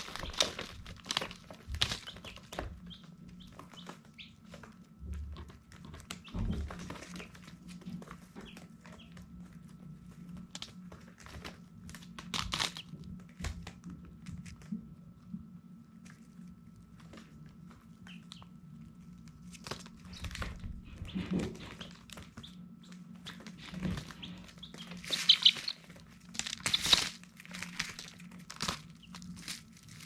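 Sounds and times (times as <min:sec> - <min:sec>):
chicks peeping: 0:00.0 - 0:11.4, 0:12.4 - 0:13.5, 0:17.8 - 0:30.0
scratching and rustling: 0:00.0 - 0:14.8, 0:16.0 - 0:30.0
steady low hum: 0:00.0 - 0:30.0.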